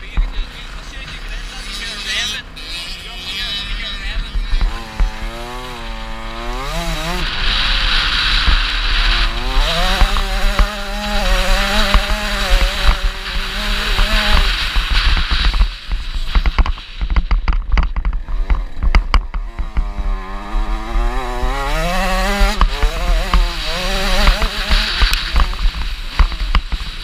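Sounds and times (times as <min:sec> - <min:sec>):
two-stroke motorbike engine revving: 0:00.0 - 0:27.0
wind noise: 0:04.4 - 0:27.0.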